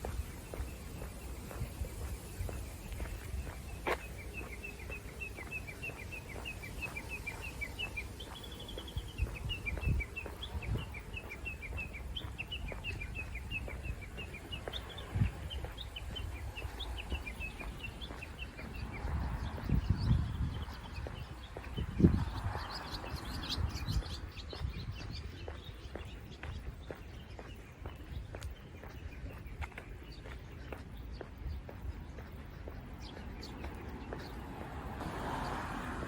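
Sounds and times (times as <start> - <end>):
small bird chirping: 0.0 - 34.4.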